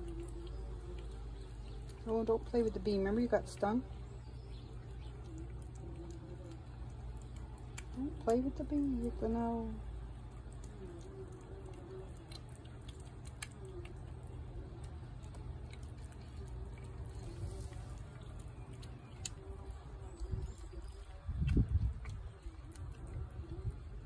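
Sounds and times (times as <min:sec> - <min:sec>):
cat chewing wet food: 0:00.0 - 0:24.0
faint wavering hum: 0:00.0 - 0:24.0
steady low rumble: 0:00.0 - 0:24.0.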